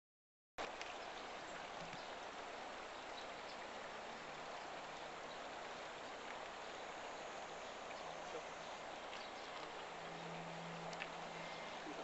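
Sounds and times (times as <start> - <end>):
river water rushing: 0.6 - 12.0.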